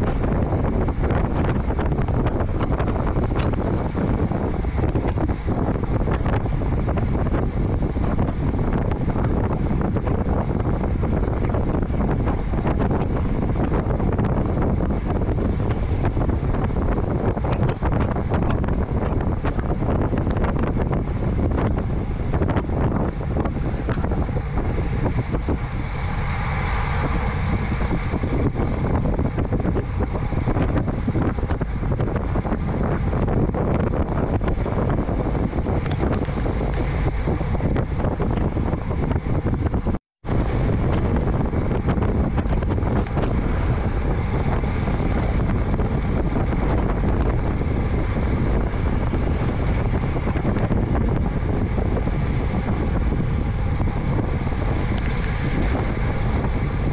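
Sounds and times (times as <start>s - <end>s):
road rumble: 0.0s - 56.9s
wind buffeting microphone: 0.0s - 56.9s.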